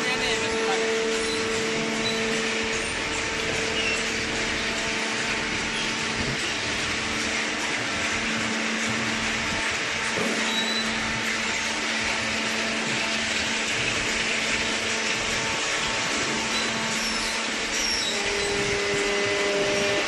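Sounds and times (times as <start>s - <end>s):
baling machinery running: 0.0s - 20.0s.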